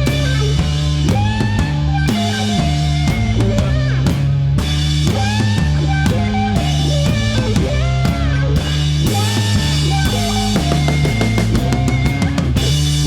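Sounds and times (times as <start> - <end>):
rock music with drums bass guitar: 0.0 - 13.0.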